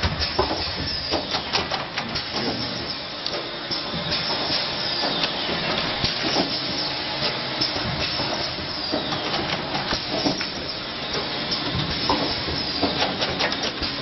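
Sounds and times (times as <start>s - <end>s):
machine clicks and clanks: 0.0s - 3.5s, 4.1s - 14.0s
filling machine running: 0.0s - 14.0s.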